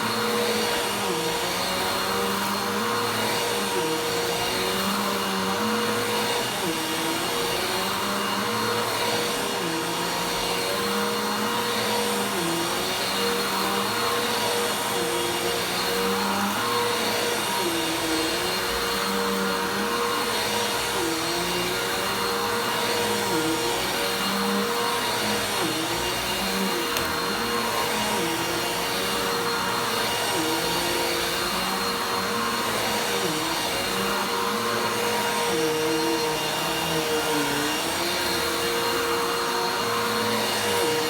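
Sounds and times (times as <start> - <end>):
vacuum cleaner running: 0.0 - 41.0.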